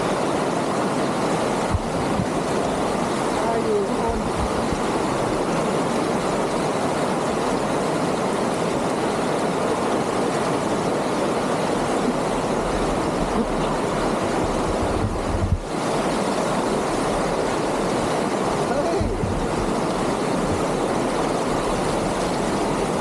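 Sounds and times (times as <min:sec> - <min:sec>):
water rushing over rapids: 0:00.0 - 0:23.0.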